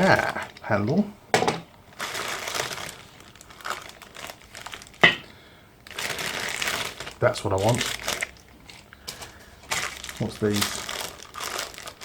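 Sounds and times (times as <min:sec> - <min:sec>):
packaging crinkling and rustling: 0:01.9 - 0:12.0.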